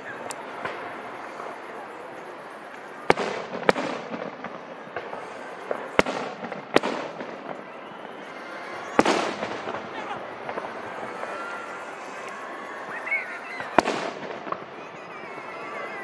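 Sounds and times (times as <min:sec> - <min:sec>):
fireworks bangs with echo: 0:00.0 - 0:16.0.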